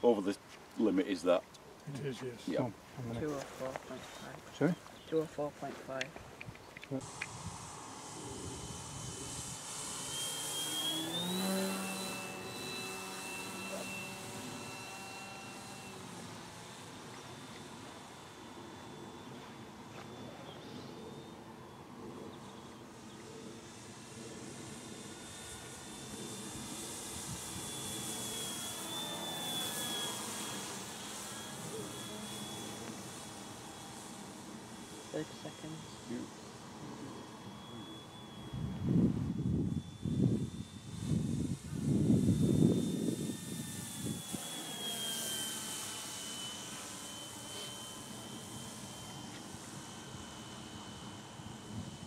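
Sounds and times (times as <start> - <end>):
model airplane electric motor whine: 0.0 - 52.0.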